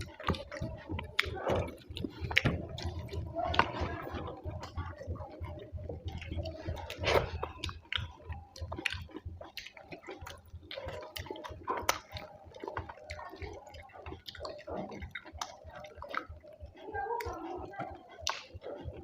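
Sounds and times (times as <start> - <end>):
close chewing with wet smacks: 0.0 - 19.0
mouth clicks: 0.0 - 19.0.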